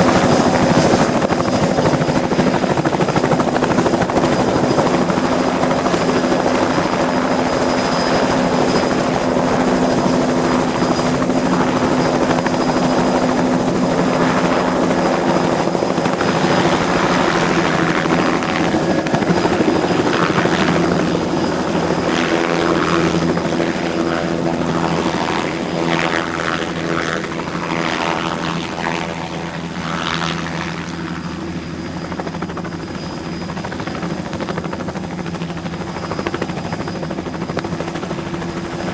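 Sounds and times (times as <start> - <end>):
helicopter rotor chop: 0.0 - 38.9.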